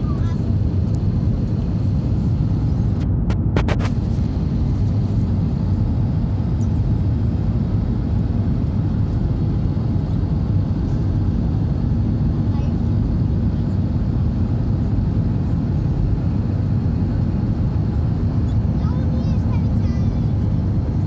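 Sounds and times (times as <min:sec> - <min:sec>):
jet engine and airflow roar: 0:00.0 - 0:21.0.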